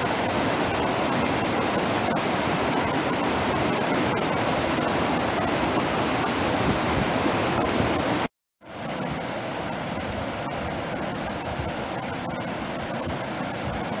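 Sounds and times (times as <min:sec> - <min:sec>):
river rapids rushing over rocks: 0:00.0 - 0:14.0.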